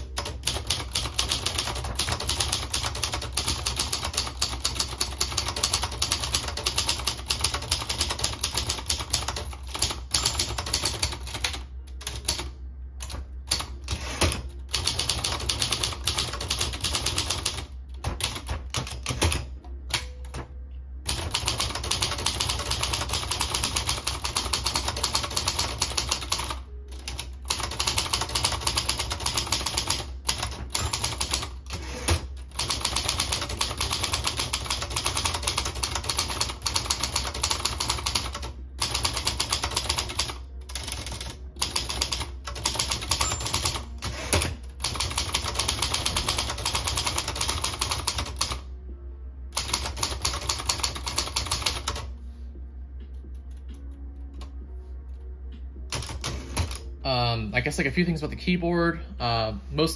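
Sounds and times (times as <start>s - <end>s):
manual typewriter typing: 0.0s - 20.5s, 21.1s - 48.6s, 49.6s - 52.1s.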